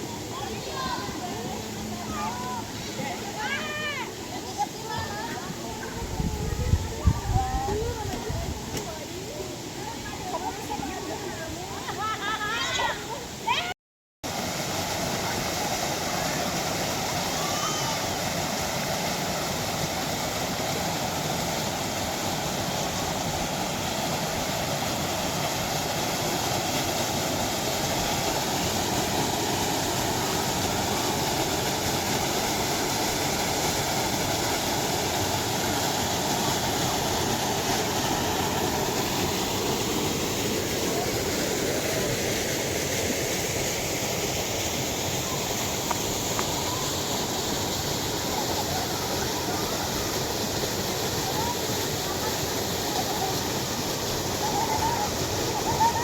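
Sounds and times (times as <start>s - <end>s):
flowing spring water: 0.0s - 56.0s.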